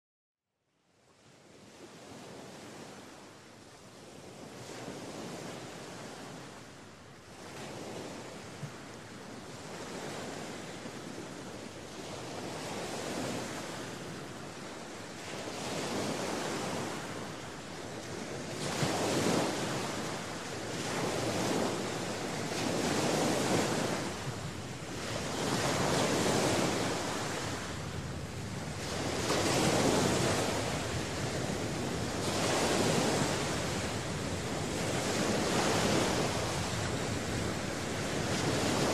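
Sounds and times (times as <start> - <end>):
waves washing on beach: 1.6 - 38.9.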